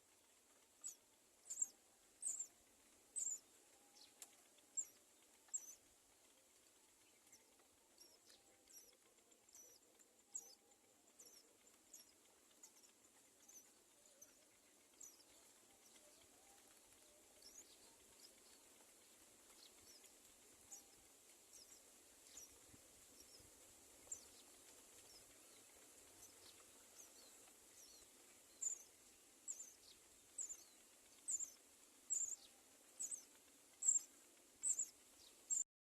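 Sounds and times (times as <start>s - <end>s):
bird chirping: 0.0s - 35.7s
faint steady hiss: 0.0s - 35.7s.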